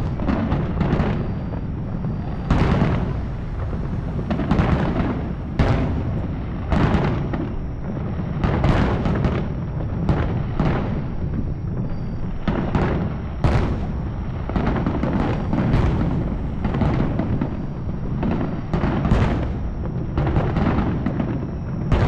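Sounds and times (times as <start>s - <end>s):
echoing rumble: 0.0s - 9.5s, 12.3s - 21.2s.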